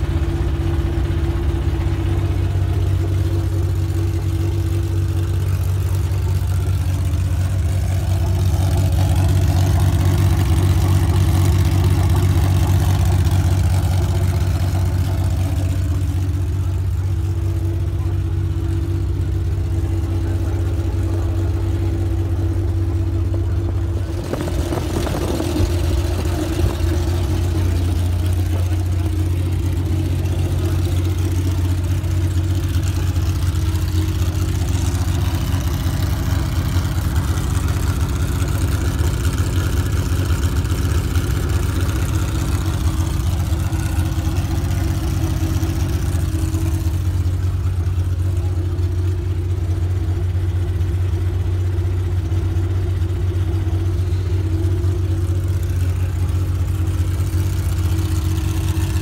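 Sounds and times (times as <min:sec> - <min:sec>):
race car engine idling: 0:00.0 - 0:59.0.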